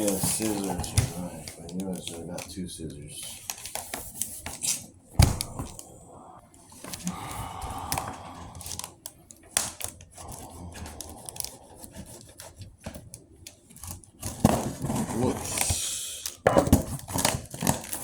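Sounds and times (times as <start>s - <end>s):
scissors cutting packaging: 0.0s - 5.8s, 7.8s - 18.0s.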